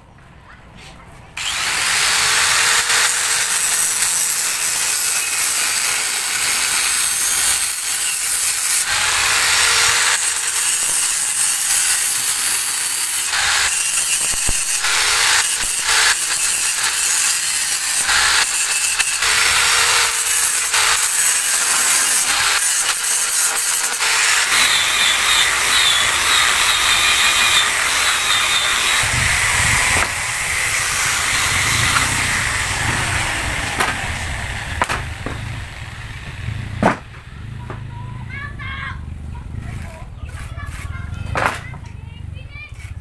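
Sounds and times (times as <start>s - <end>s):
angle grinder grinding steel: 1.4s - 37.8s.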